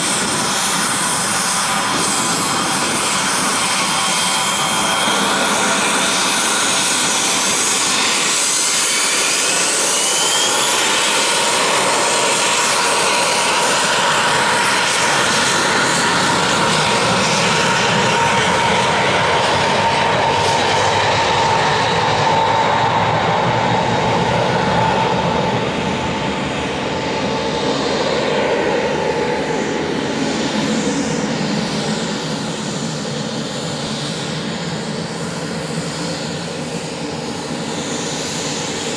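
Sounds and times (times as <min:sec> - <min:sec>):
jet engine noise with whine: 0:00.0 - 0:38.9.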